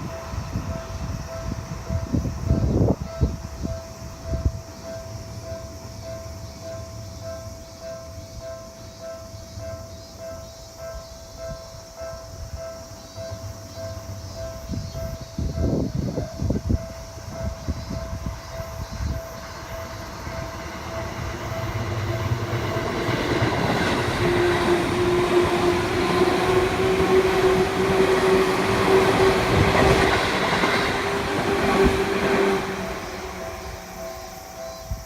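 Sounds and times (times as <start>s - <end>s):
crossing warning bell: 0.0s - 35.0s
train passing with whine: 0.0s - 35.0s.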